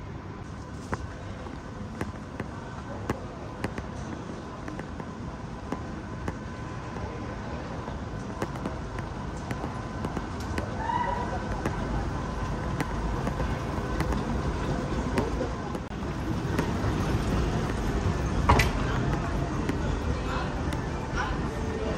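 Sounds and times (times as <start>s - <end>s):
hum and rumble of busy space: 0.0s - 21.9s.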